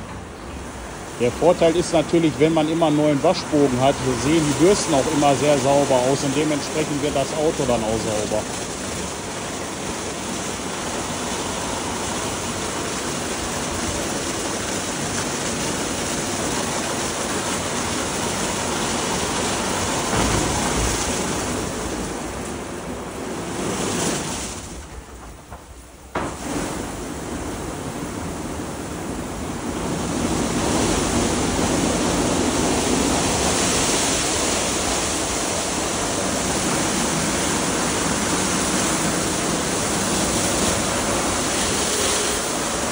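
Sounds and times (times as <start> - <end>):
water jets spraying: 0.0 - 42.9.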